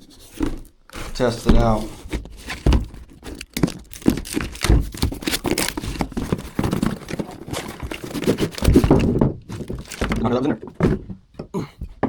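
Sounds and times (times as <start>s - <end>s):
hard objects knocking and clattering: 0.2s - 12.0s.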